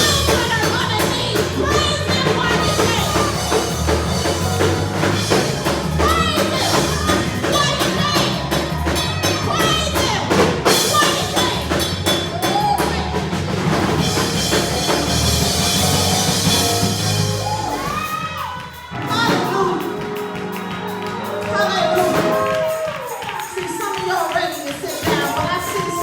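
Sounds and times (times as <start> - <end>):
drum kit beat: 0.0 - 26.0
gospel band playing: 0.0 - 26.0.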